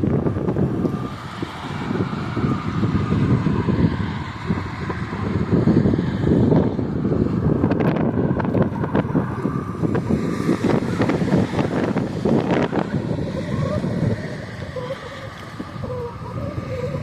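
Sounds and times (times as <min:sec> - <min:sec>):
vehicle rumble: 0:00.0 - 0:17.0
wind buffeting microphone: 0:00.0 - 0:17.0.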